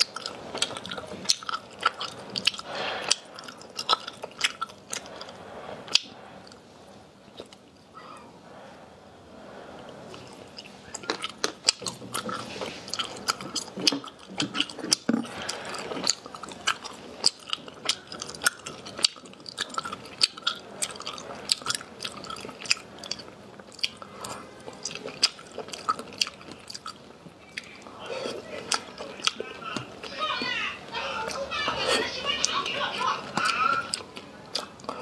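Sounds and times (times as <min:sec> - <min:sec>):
person chewing crunchy food: 0:00.0 - 0:08.6, 0:09.4 - 0:32.4, 0:33.2 - 0:35.0.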